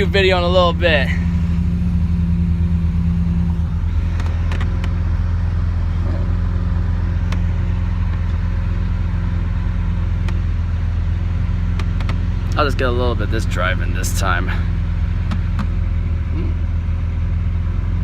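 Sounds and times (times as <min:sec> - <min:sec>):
car engine droning at low revs: 0:00.0 - 0:18.0.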